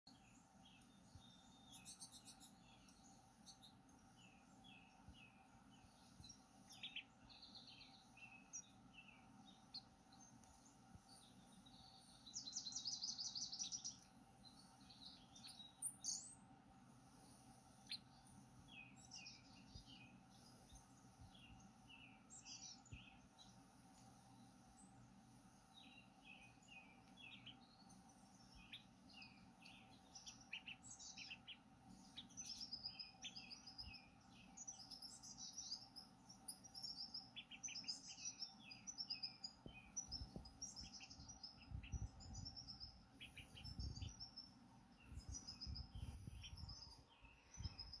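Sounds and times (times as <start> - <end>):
recorded birdsong chirps: 0.0 - 48.0.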